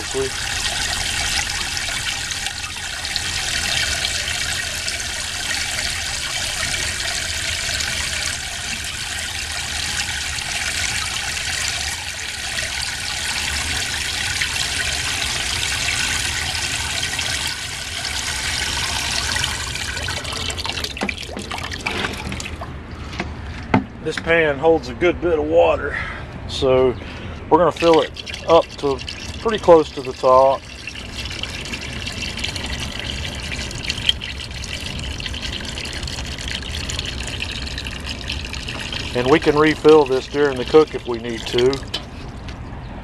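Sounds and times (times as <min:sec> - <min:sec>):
water splashing into metal pan: 0:00.0 - 0:22.8, 0:27.7 - 0:42.2.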